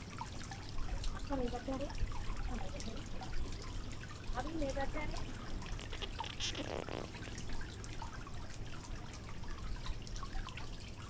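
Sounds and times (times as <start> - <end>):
water rushing: 0.0 - 10.6
water trickling and splashing: 0.0 - 11.0.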